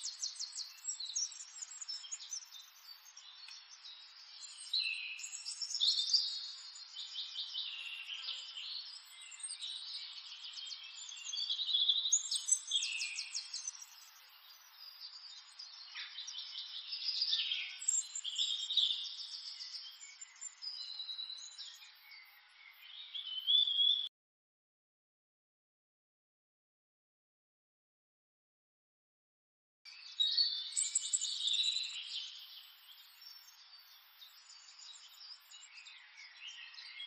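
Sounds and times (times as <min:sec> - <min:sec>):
birds chirping and trilling: 0:00.0 - 0:24.1, 0:29.9 - 0:37.0.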